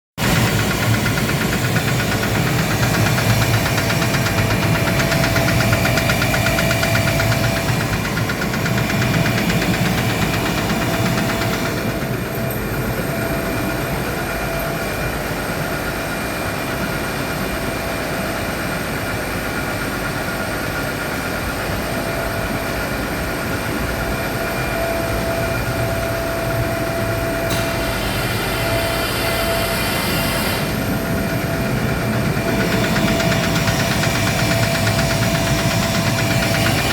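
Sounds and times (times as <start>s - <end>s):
air compressor running: 0.2s - 36.9s.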